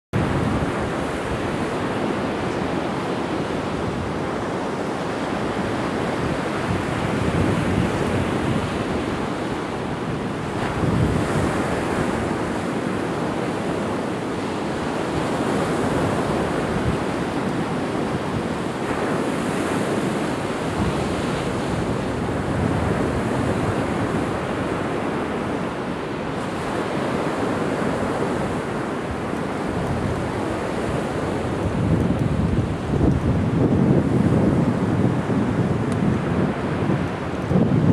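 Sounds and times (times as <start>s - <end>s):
wind blowing across microphone: 0.1s - 37.9s
ocean surf breaking: 0.2s - 37.9s.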